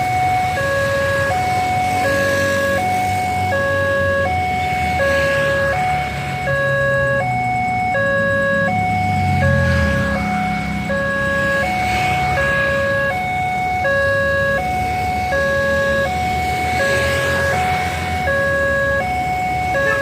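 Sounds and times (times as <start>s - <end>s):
two-tone crossing alarm: 0.0s - 20.0s.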